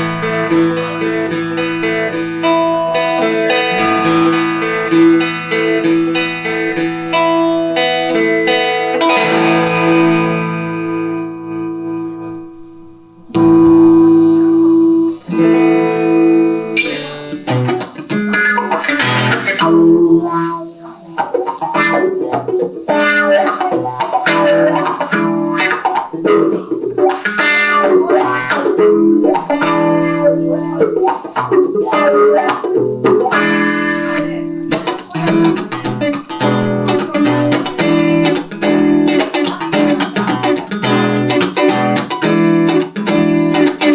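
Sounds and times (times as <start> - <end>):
overdriven electric guitar: 0.0 - 43.9.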